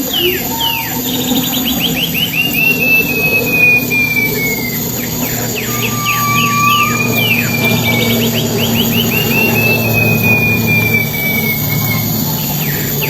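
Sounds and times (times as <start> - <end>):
low background hum: 0.0 - 13.0
songbird whistling and trilling: 0.0 - 13.0.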